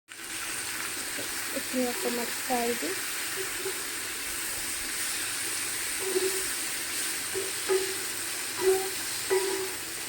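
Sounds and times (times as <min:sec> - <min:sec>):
food sizzling in hot oil: 0:00.1 - 0:10.0.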